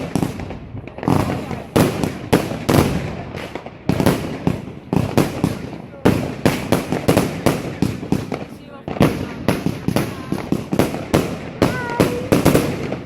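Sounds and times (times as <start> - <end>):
firework cake bangs crackling: 0.0 - 13.0.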